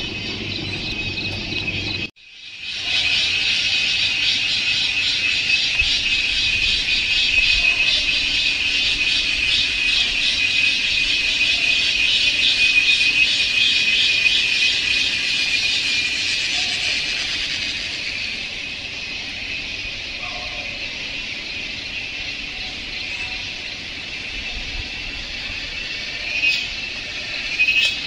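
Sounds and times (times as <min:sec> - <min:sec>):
cicadas buzzing in chorus: 0:00.0 - 0:28.0.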